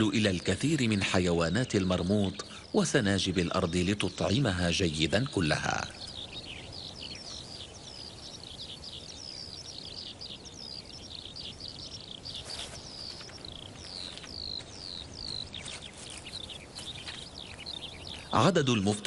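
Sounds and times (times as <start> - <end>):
birds chirping: 0.0 - 19.0
faint outdoor hiss: 0.0 - 19.0.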